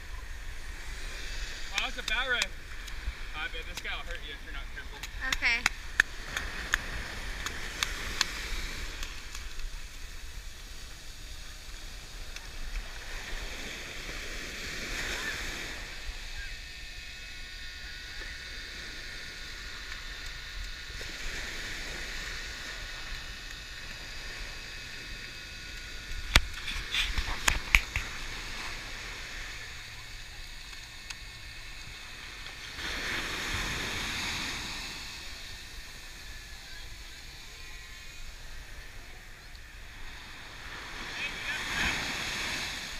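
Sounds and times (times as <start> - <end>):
surf waves washing on sand: 0.0 - 42.9.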